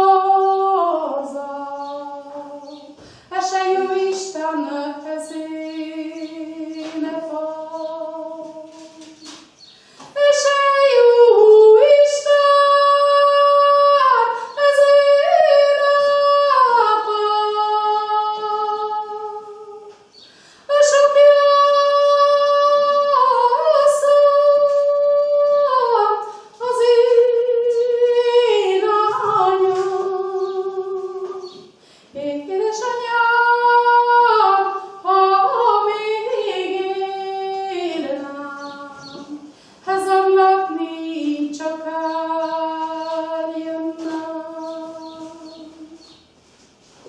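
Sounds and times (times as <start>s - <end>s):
woman singing unaccompanied: 0.0s - 46.3s.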